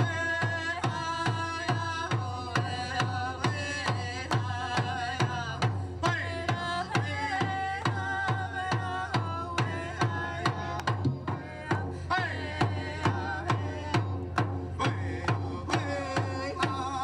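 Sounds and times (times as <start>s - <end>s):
hand drum beaten with stick: 0.0s - 17.0s.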